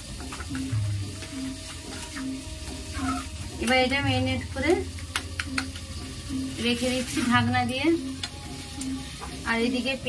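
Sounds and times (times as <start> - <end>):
background music with low note: 0.0 - 10.0.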